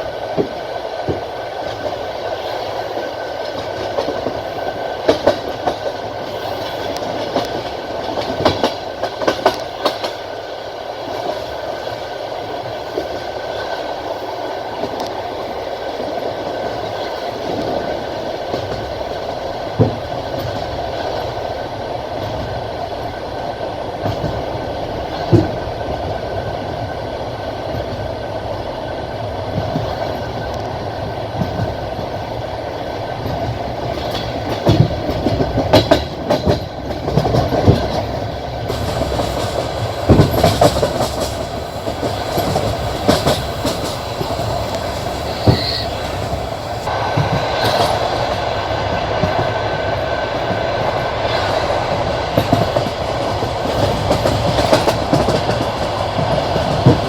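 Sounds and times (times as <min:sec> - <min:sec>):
train wheels clattering: 0:00.0 - 0:23.2, 0:24.0 - 0:26.2, 0:29.5 - 0:57.0
train running rumble: 0:00.0 - 0:57.0.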